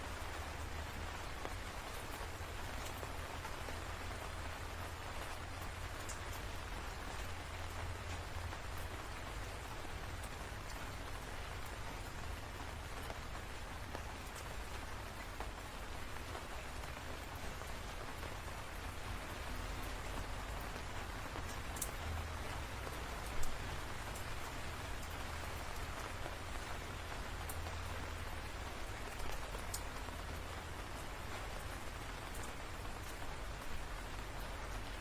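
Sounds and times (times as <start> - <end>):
raindrop ticks: 0.1 - 35.0.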